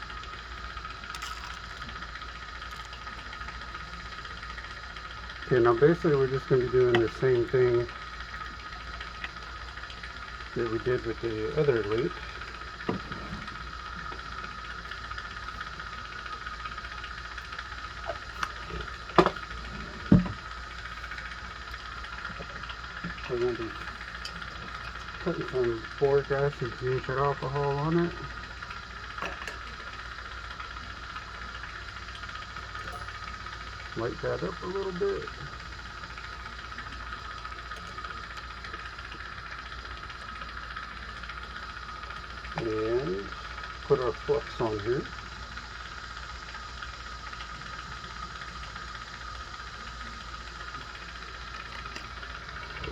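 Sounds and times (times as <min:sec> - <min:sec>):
low hum: 0:00.0 - 0:52.9
steady hiss: 0:00.0 - 0:52.9.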